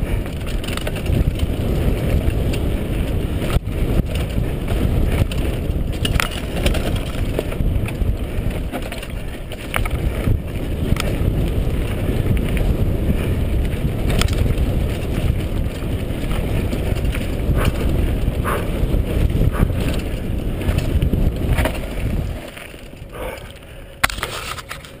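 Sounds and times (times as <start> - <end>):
bike rattling over bumps: 0.0 - 25.0
bike tyres rumbling on dirt: 0.0 - 25.0
wind on microphone: 0.0 - 25.0.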